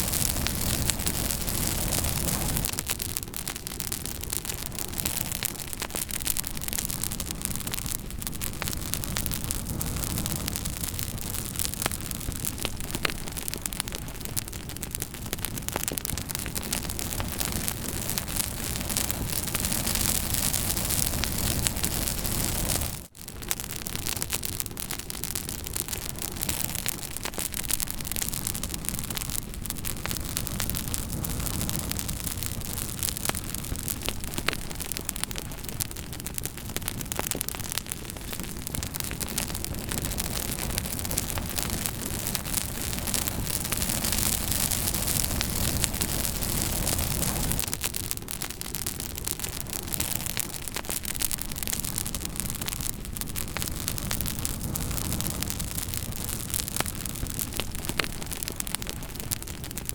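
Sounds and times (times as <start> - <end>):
campfire crackling and hissing: 0.0 - 59.9.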